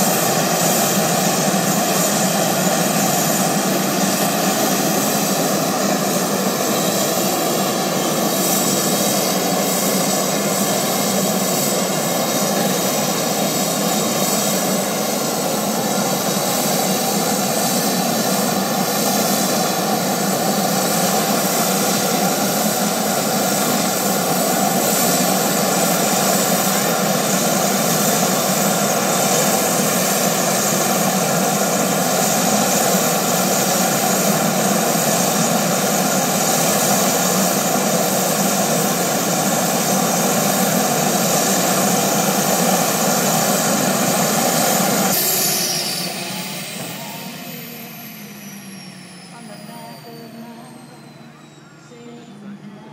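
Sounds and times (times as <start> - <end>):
turbine engine running: 0.0 - 52.9.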